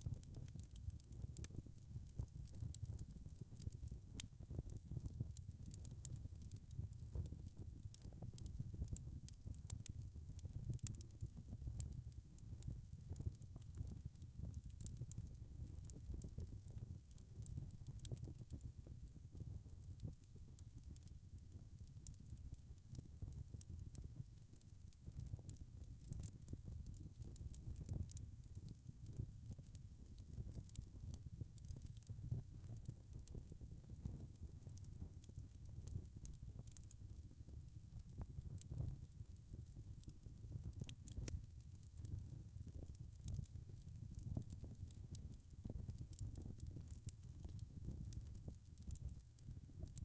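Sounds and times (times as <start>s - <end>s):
wood fire snaps and pops: 0.0s - 50.0s.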